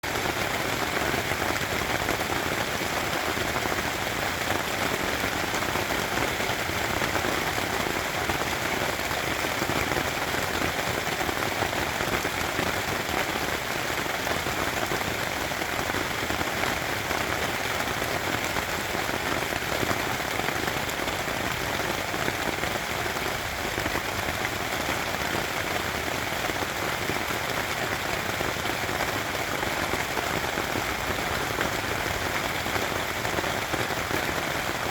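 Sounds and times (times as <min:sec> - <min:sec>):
rain pattering on tent fabric: 0:00.0 - 0:34.9.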